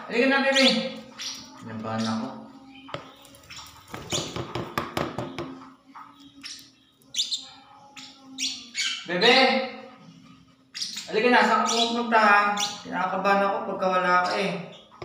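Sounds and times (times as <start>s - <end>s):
parrots chirping: 0.0s - 15.0s.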